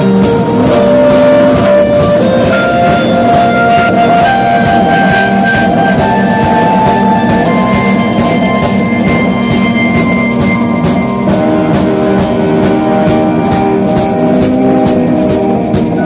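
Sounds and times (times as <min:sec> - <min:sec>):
cymbal strokes: 0:00.0 - 0:16.0
jazz-rock band playing: 0:00.0 - 0:16.0.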